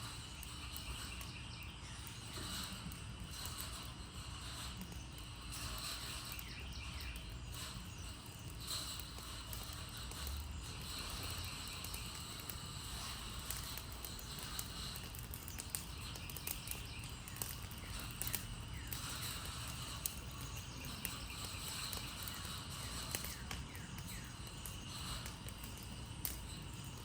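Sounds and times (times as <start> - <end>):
fire crackling and popping: 0.0 - 27.0
low rumble of flame: 0.0 - 27.0.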